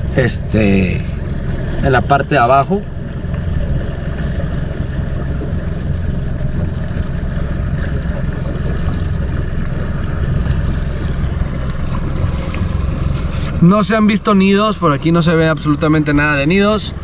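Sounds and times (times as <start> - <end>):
outboard motor rumbling: 0.0 - 17.0
water noise: 0.0 - 17.0
wind: 0.0 - 17.0.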